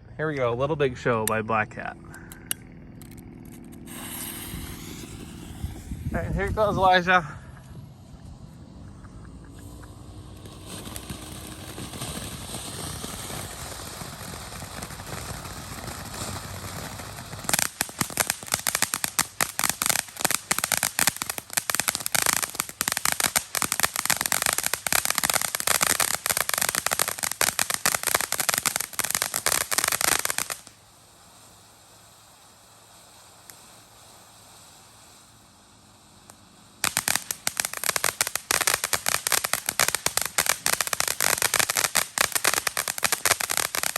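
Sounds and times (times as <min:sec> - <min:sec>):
rapid firework crackling: 0:02.4 - 0:43.9
firework fountain hissing: 0:03.8 - 0:43.9.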